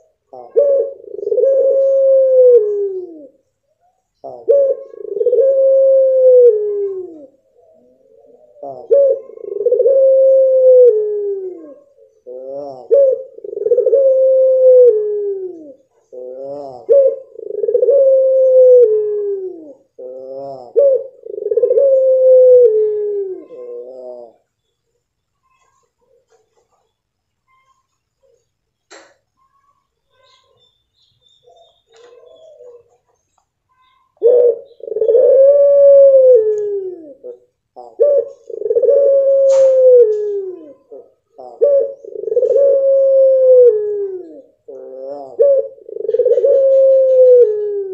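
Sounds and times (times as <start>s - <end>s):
dove long calls: 0.0s - 24.6s, 30.3s - 47.9s.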